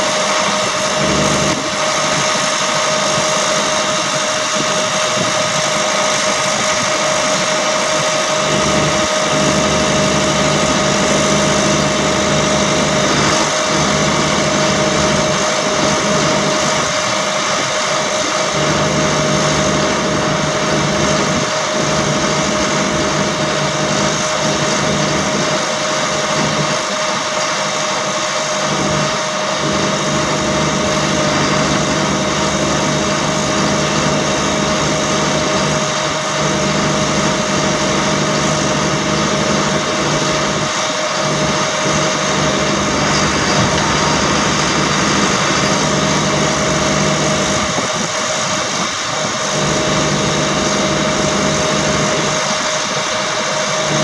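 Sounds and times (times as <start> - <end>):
hydraulic pump whine: 0.0 - 54.0
low engine hum: 0.0 - 54.0.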